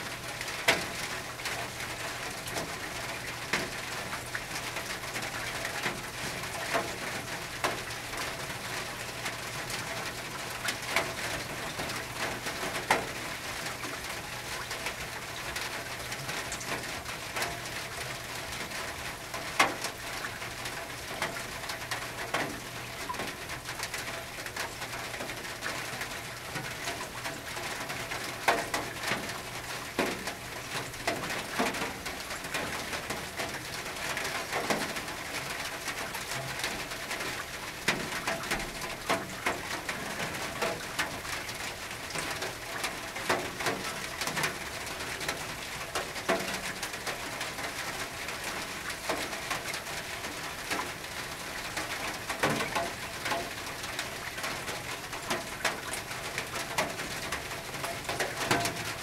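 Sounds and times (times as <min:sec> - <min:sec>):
rain pattering on a tin roof: 0:00.0 - 0:59.0.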